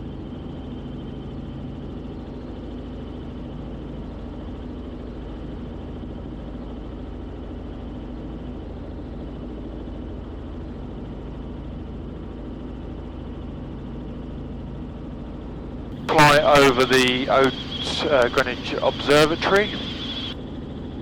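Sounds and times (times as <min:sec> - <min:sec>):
helicopter engine and rotors drone: 0:00.0 - 0:21.0.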